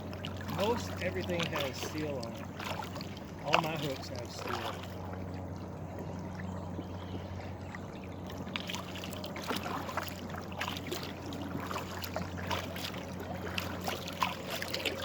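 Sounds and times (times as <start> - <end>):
steady low hum: 0.0 - 15.0
water trickling and dripping: 0.0 - 15.0.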